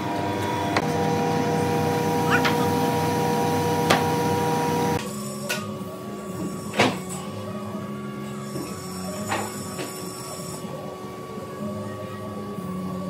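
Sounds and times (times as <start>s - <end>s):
machine whine and hum: 0.0s - 13.0s.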